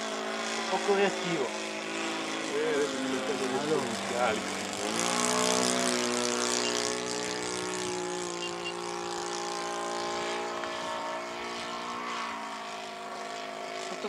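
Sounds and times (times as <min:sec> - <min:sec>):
model aircraft engine droning: 0:00.0 - 0:14.0.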